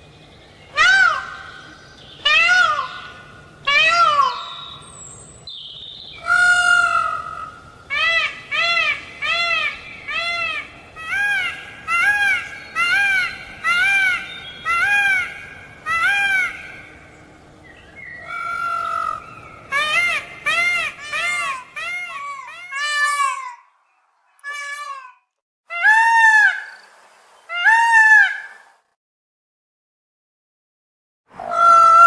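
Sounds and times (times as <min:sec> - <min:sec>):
peacock calling: 0:00.7 - 0:05.6, 0:06.2 - 0:17.2, 0:17.8 - 0:23.8, 0:24.4 - 0:28.7, 0:31.4 - 0:32.0.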